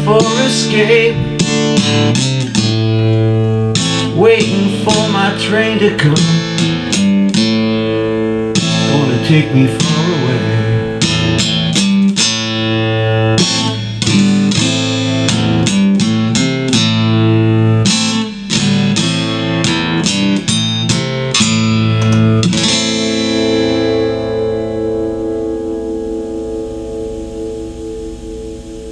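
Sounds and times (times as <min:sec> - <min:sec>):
blues guitar playing: 0:00.0 - 0:28.9.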